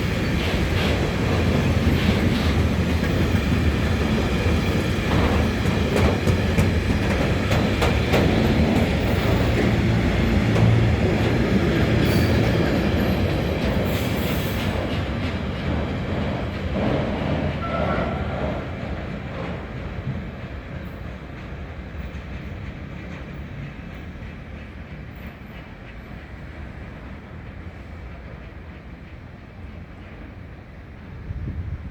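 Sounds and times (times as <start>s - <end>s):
freight train rumbling past: 0.0s - 31.9s.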